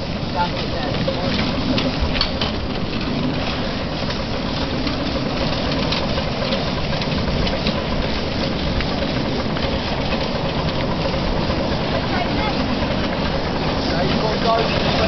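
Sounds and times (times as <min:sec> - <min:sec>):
locomotive wheels running on track: 0:00.0 - 0:15.0
steam hissing: 0:00.0 - 0:15.0.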